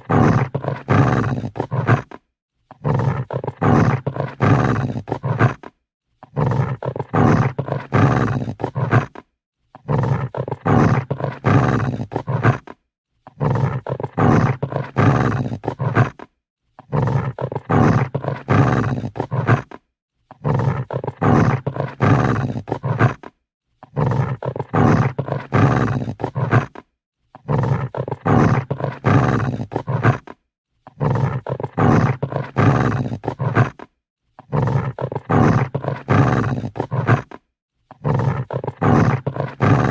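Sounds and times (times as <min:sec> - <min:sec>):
dog growling: 0:00.0 - 0:39.9.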